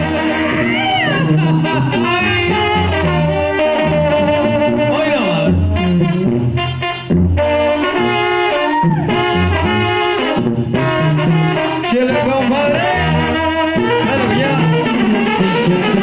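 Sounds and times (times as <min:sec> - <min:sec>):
sousaphone bass line: 0:00.0 - 0:16.0
trumpets and trombones melody: 0:00.0 - 0:16.0.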